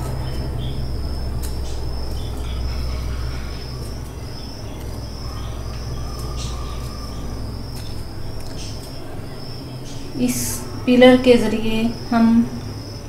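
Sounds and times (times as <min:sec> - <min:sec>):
cricket chirping: 0:00.0 - 0:13.0
low steady hum: 0:00.0 - 0:13.0.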